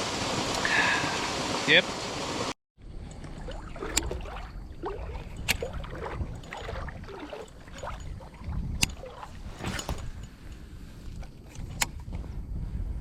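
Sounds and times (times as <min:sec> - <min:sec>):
water lapping and gurgling: 0:00.0 - 0:11.2.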